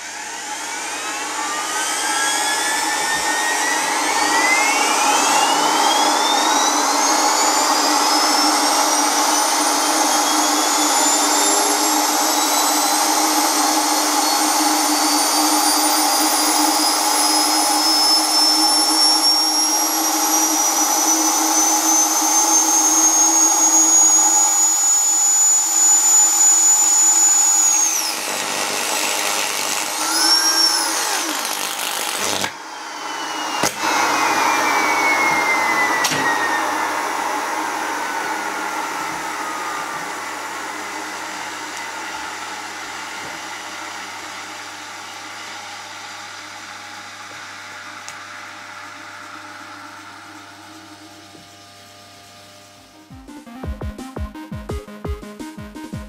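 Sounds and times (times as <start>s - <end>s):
vacuum motor whine: 0.0s - 53.8s.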